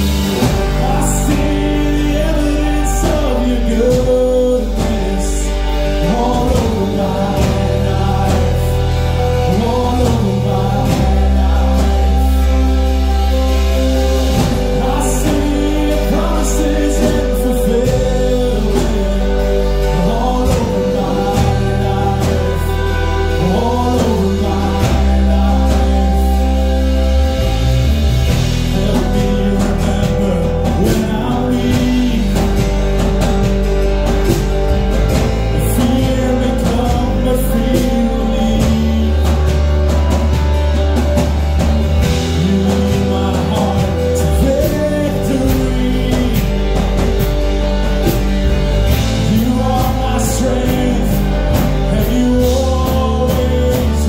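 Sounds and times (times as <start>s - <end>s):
band playing worship song: 0.0s - 54.0s
man singing lead: 0.0s - 54.0s.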